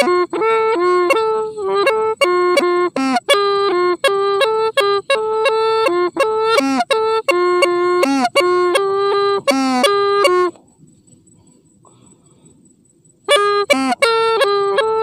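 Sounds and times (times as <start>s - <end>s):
bamboo pipe melody: 0.0s - 11.1s, 13.2s - 15.0s.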